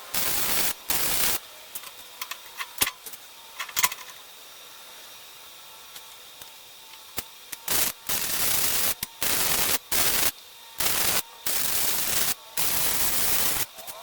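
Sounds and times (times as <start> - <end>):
welder arc crackling: 0.0 - 4.0, 5.8 - 14.0.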